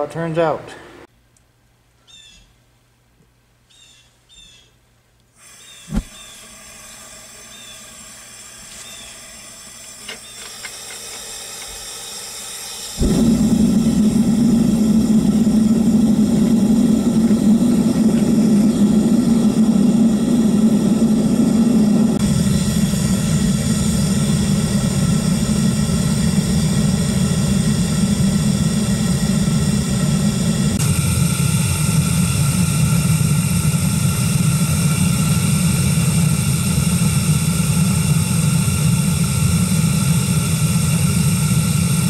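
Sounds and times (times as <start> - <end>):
furnace burner roaring: 5.4 - 42.0.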